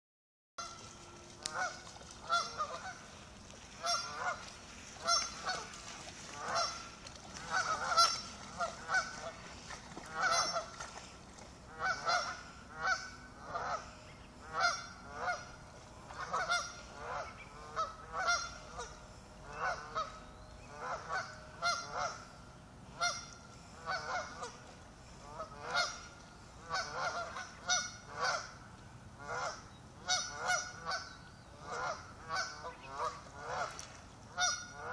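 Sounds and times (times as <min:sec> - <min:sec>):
waterfowl alarm calls: 0:00.6 - 0:34.9.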